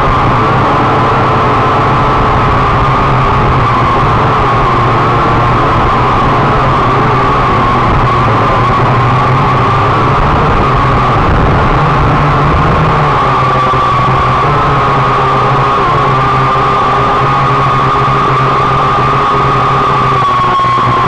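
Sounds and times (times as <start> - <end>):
drone propellers buzzing whine: 0.0 - 21.0.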